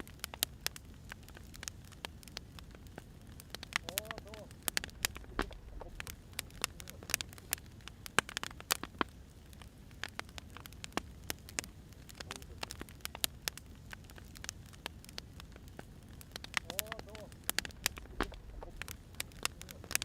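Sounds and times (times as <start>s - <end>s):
firewood fire crackling: 0.0s - 20.0s.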